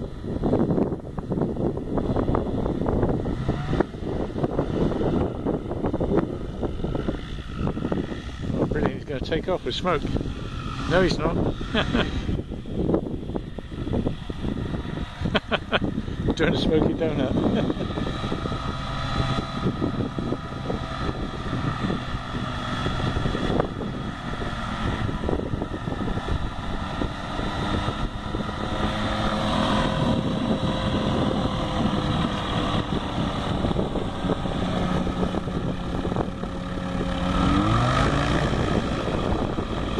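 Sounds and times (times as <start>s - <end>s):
biplane engine and propeller: 0.0s - 39.9s
wind buffeting microphone: 0.0s - 39.9s.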